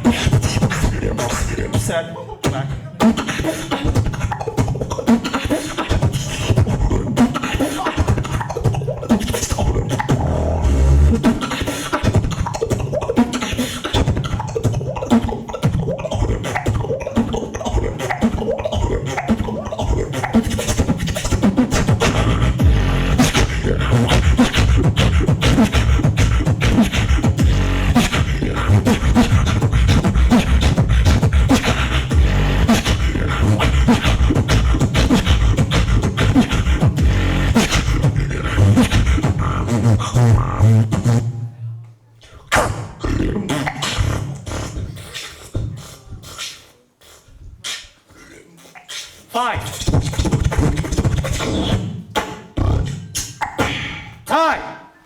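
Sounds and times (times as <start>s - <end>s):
person beatboxing: 0.0s - 41.6s, 42.2s - 54.7s.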